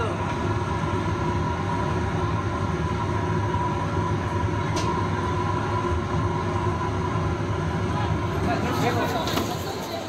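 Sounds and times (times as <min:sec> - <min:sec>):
steady hum: 0:00.0 - 0:10.0
water boiling in large pot: 0:00.0 - 0:10.0.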